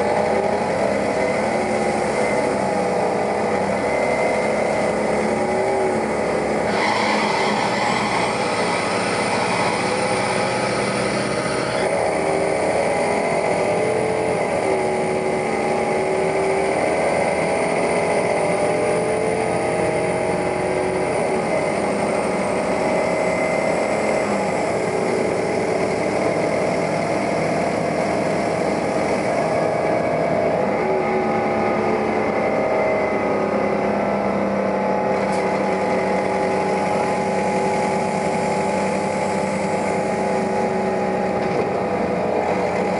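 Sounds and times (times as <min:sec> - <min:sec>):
bus engine running: 0:00.0 - 0:42.9
drivetrain whine: 0:00.0 - 0:42.9.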